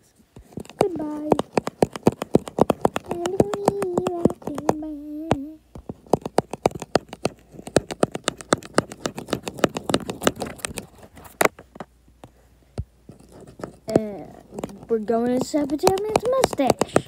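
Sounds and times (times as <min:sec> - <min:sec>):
rapid tapping on touchscreen: 0:00.4 - 0:11.9, 0:13.1 - 0:17.0.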